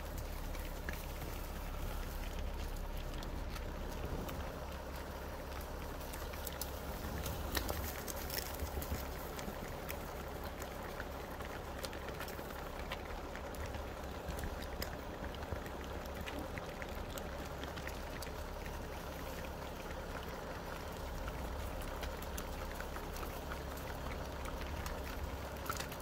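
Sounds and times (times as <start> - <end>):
hooves clicking on asphalt: 0.0 - 26.0
vehicle engine idling: 0.0 - 26.0.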